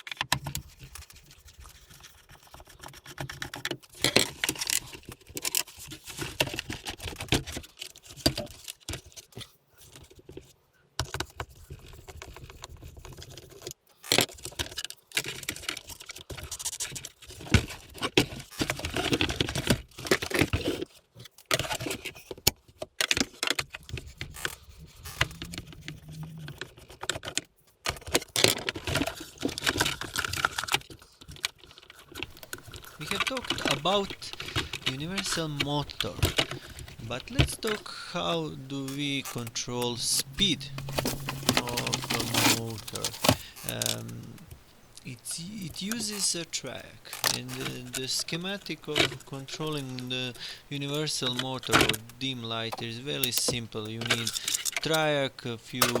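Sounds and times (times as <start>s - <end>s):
plastic and metal parts rattling: 0.0s - 38.0s, 39.0s - 44.2s, 47.0s - 48.2s, 51.2s - 55.0s, 55.7s - 56.0s.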